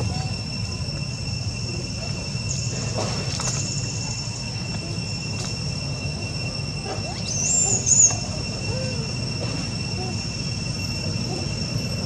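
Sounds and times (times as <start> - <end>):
high wavering squeal: 0.0 - 12.0
insects droning: 0.0 - 12.0.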